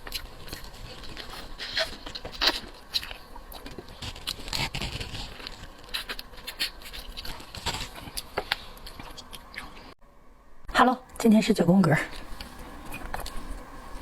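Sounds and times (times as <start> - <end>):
close chewing and eating sounds: 0.0 - 10.0, 11.8 - 14.0.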